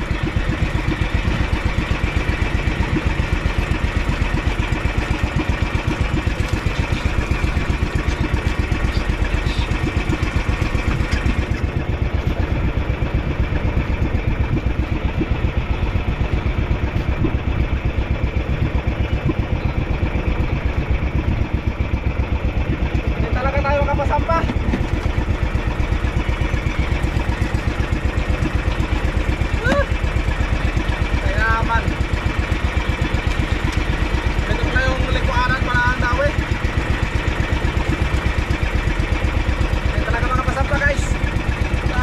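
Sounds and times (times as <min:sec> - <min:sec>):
boat engine running: 0:00.0 - 0:42.0.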